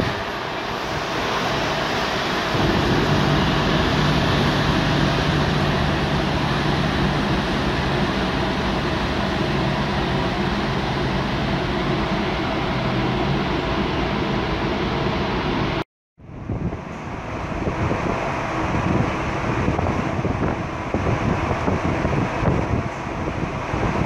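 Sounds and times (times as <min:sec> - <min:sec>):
wind rushing across microphone: 0:00.0 - 0:13.6, 0:15.6 - 0:24.0
marine engines droning: 0:00.0 - 0:24.0.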